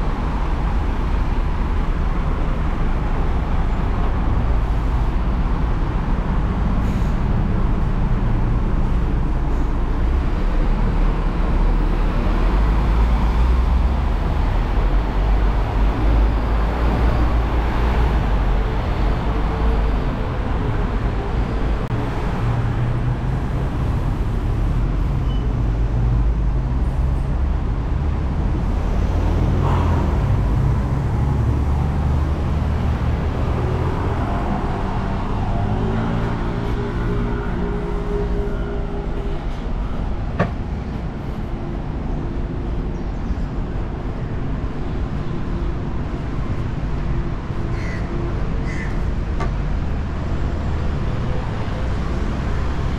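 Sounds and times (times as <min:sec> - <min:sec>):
city road traffic rumble: 0:00.0 - 0:52.9.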